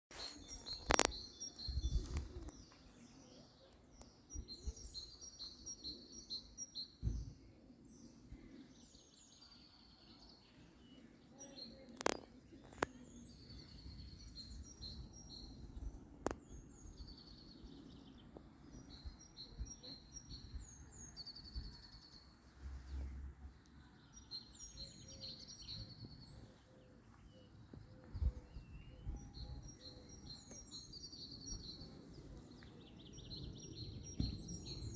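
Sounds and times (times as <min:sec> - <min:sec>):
songbirds chirping: 0:00.1 - 0:34.9.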